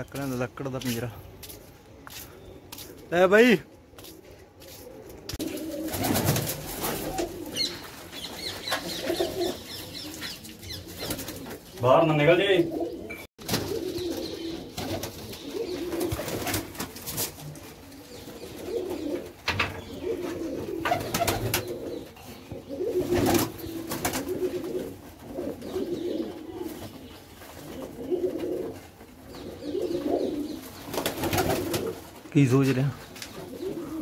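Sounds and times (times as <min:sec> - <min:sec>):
pigeons cooing: 0:04.0 - 0:32.2, 0:33.0 - 0:34.0.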